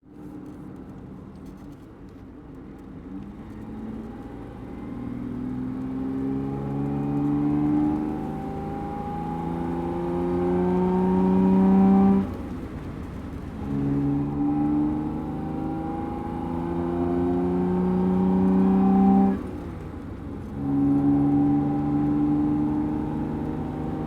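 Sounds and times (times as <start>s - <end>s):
car engine accelerating: 3.1s - 24.0s.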